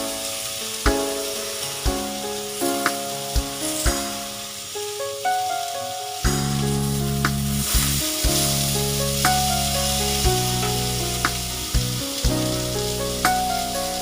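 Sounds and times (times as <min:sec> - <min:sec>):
food sizzling in a pan: 0:00.0 - 0:14.0
background music with a beat: 0:00.8 - 0:04.5, 0:06.2 - 0:14.0.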